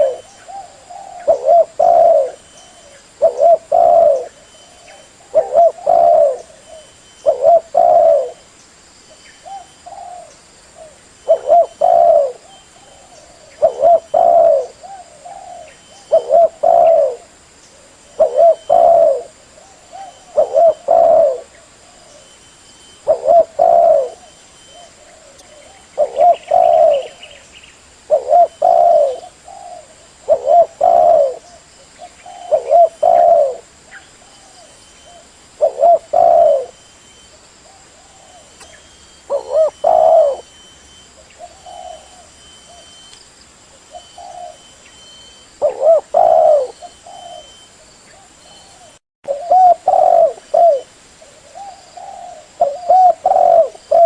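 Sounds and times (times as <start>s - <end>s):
dove cooing: 0.0s - 8.4s, 9.4s - 22.4s, 23.0s - 27.4s, 28.0s - 43.1s, 43.8s - 54.0s.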